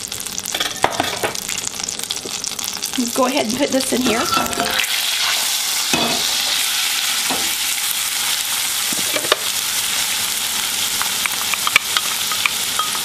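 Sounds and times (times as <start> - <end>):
vegetables sizzling in butter: 0.0 - 13.0.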